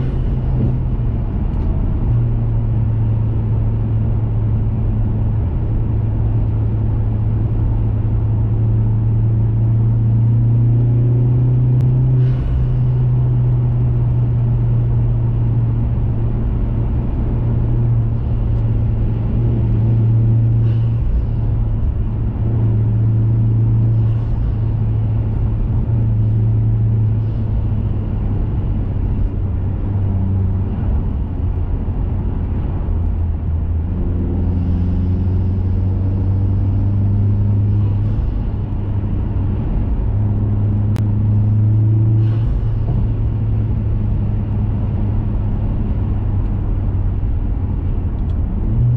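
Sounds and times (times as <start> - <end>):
car engine droning at cruise: 0.0 - 48.9.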